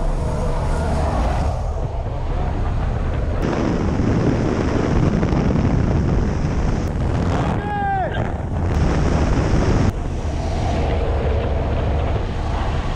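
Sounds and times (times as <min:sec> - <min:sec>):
propeller plane engine droning: 0:00.0 - 0:12.9
wind rushing: 0:00.0 - 0:12.9.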